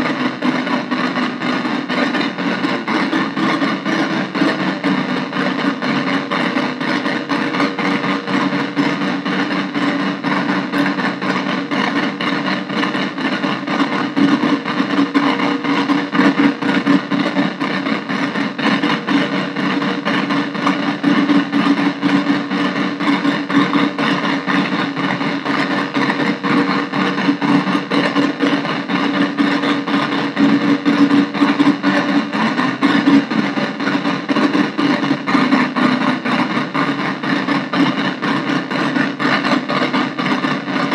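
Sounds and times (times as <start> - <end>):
buzzing synth drone: 0.0 - 40.9.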